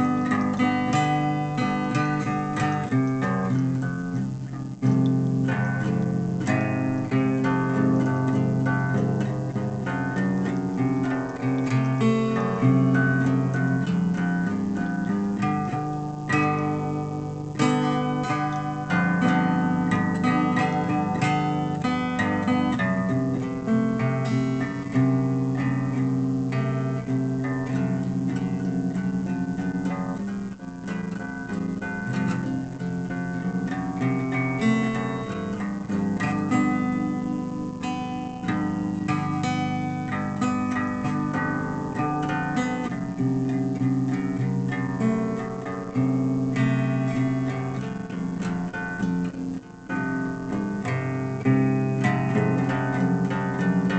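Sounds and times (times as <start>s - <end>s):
guitar plucked and strummed: 0.0s - 53.9s.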